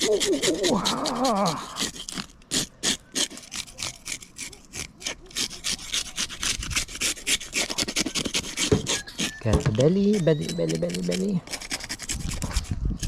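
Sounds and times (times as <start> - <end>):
knife sawing through fish: 0.0 - 13.0.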